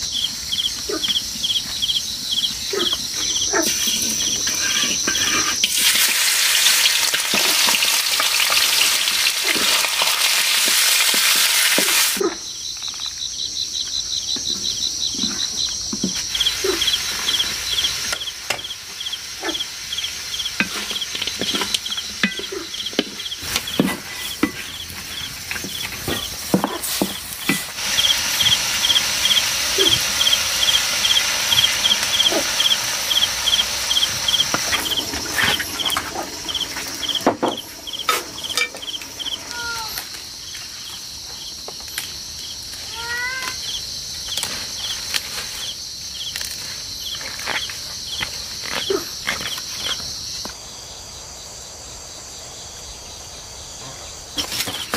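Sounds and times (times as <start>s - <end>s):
high insect drone: 0.0s - 54.9s
insects chirping in pulses: 0.0s - 54.9s.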